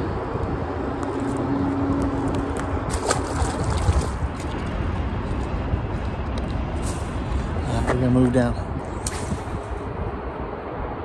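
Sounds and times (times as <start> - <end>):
water splashing and trickling: 0.9 - 9.8.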